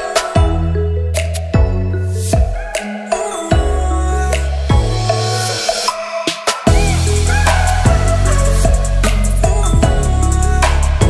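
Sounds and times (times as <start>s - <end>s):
electronic beat with deep bass: 0.0s - 11.0s.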